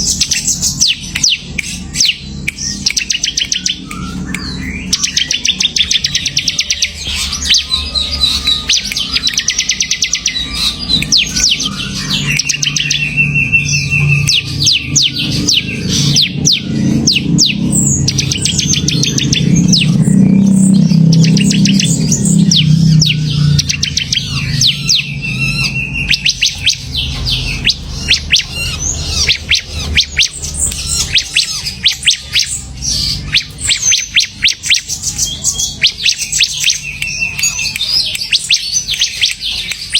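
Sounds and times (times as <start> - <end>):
low hum: 0.0 - 39.9
songbird chirping and trilling: 0.0 - 39.9.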